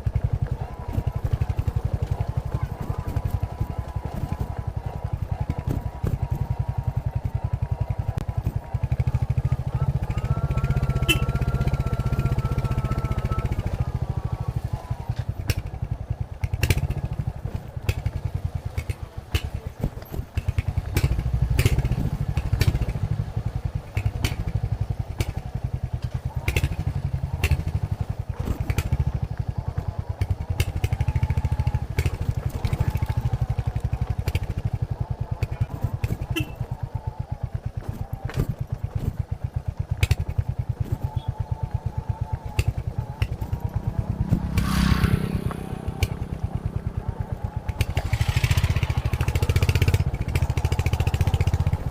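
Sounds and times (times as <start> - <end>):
motorcycle engine thumping: 0.0 - 51.9.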